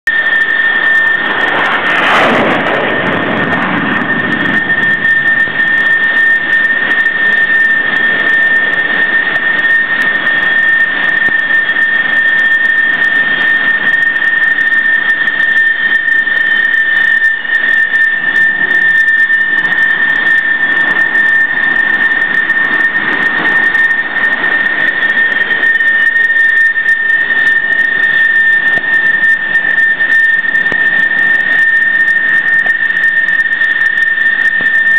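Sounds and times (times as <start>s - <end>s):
jet engines whining: 0.1s - 34.9s
jet launch surge: 0.1s - 34.9s.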